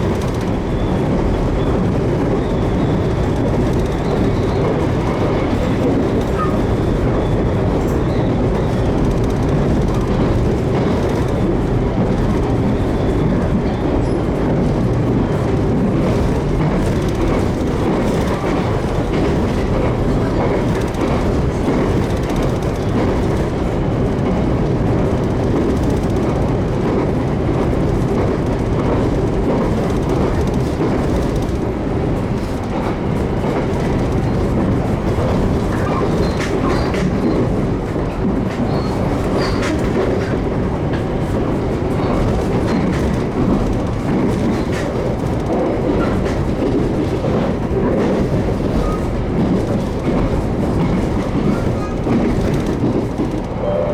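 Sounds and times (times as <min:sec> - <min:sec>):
train wheels running on rails: 0:00.0 - 0:53.9.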